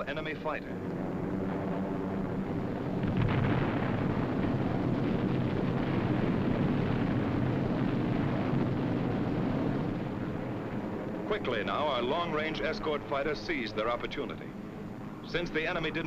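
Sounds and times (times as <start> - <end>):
aircraft engines droning: 0.0 - 16.0
low rumble of explosions: 0.0 - 16.0.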